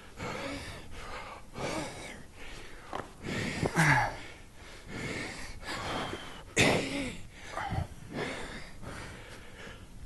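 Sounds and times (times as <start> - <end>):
people breathing hard: 0.0 - 10.0.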